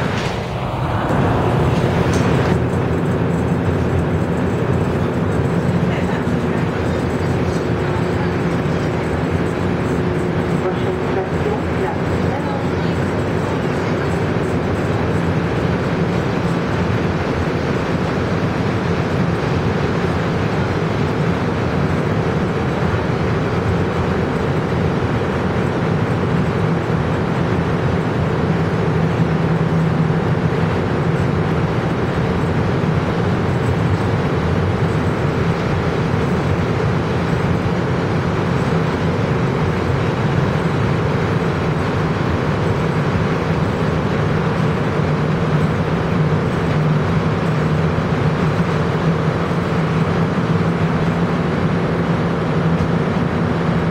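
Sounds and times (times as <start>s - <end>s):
metro car running drone: 0.0s - 53.9s.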